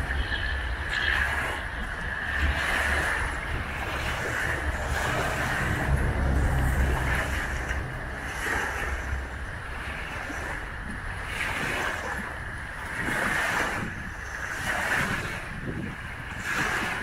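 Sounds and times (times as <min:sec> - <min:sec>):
waves lapping on sandy shore: 0:00.0 - 0:17.0
wind rumble on microphone: 0:00.0 - 0:17.0.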